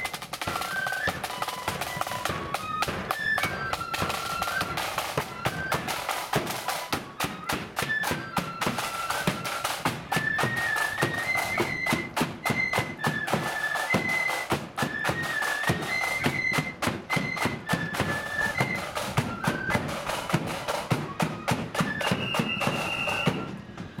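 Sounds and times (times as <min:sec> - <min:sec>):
flute band playing: 0:00.0 - 0:24.0
snare drums: 0:00.0 - 0:24.0.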